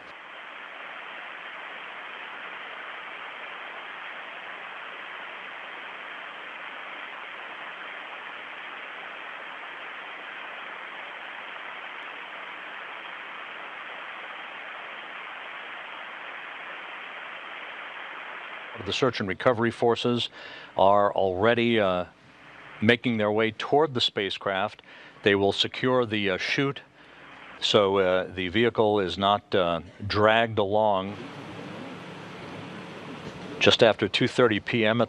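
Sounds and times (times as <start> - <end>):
static hiss: 0.0 - 35.0.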